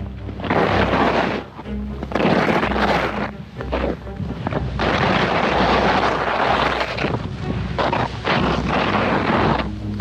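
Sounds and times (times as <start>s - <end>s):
skis scraping on icy snow: 0.0s - 10.0s
wind on microphone: 0.0s - 10.0s.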